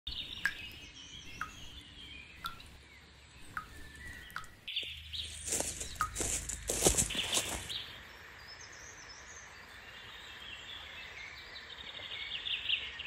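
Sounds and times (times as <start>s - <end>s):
birds singing: 0.1s - 13.0s.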